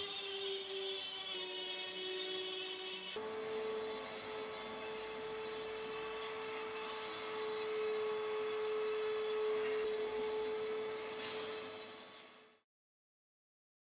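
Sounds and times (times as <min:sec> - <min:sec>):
abrasive scratching rusty metal: 0:00.0 - 0:12.6
small power tool running: 0:00.0 - 0:12.6.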